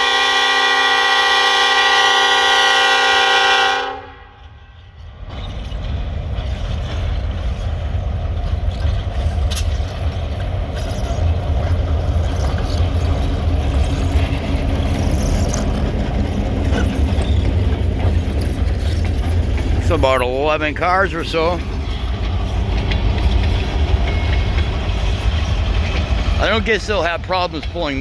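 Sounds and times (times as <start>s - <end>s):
freight train rumbling past: 0.0s - 28.0s
train wheels clicking: 4.3s - 28.0s.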